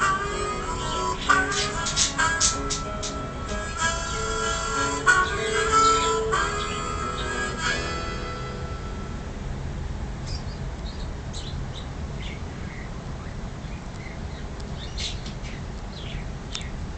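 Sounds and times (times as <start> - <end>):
parrot chirping and squeaking: 0.0 - 8.1, 10.3 - 16.2
low background noise: 0.0 - 16.9.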